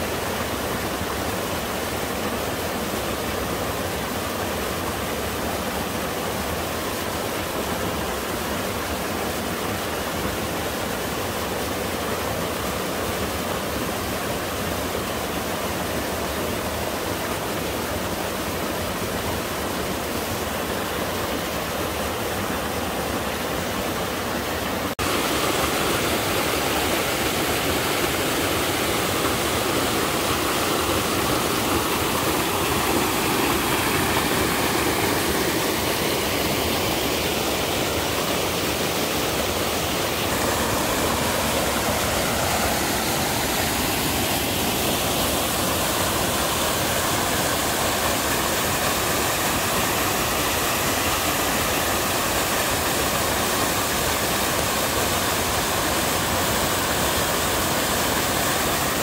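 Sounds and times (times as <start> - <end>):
water rushing over boulders: 0.0 - 59.0.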